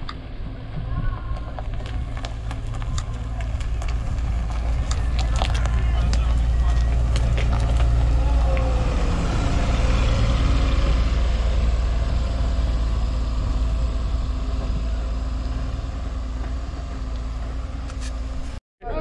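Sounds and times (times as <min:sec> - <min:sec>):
bus engine driving by: 0:00.0 - 0:19.0.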